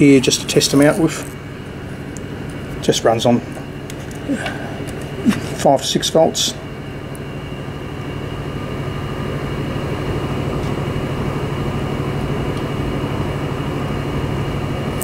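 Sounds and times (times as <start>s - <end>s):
low machine drone with hiss: 0.0s - 15.0s.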